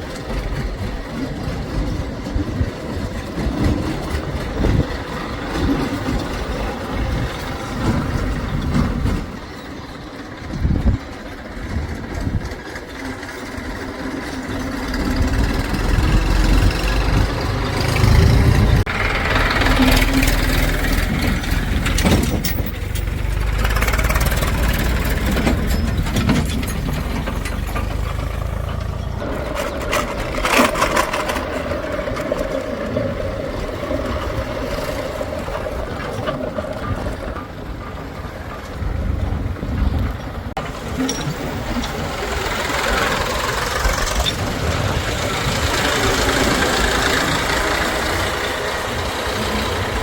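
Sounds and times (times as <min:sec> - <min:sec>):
heavy vehicle engine running: 0:00.0 - 0:50.0.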